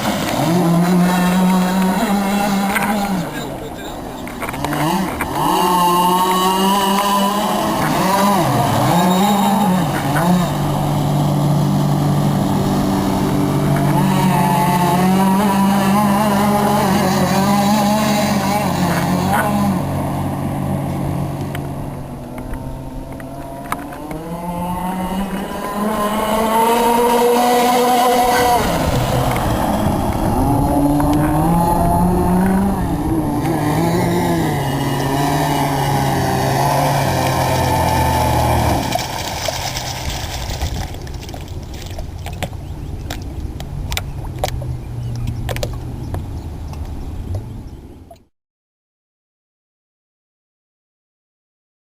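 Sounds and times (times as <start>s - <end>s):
low rumbling water noise: 0.0s - 48.3s
model boat engines running: 0.2s - 46.2s.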